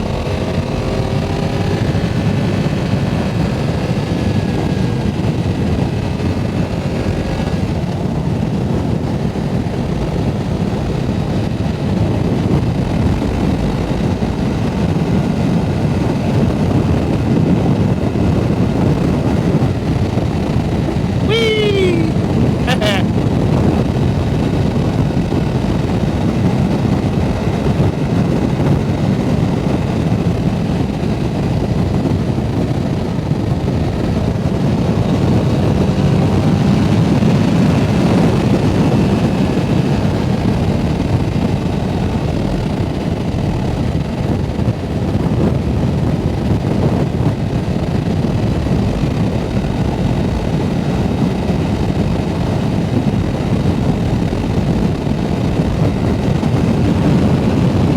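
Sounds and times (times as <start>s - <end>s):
wind rush on microphone: 0.0s - 57.9s.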